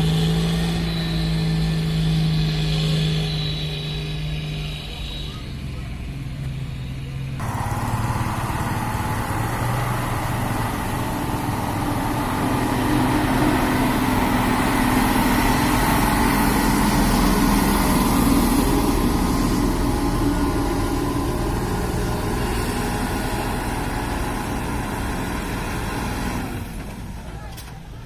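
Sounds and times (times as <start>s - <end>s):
heavy truck engine running: 0.0s - 28.0s.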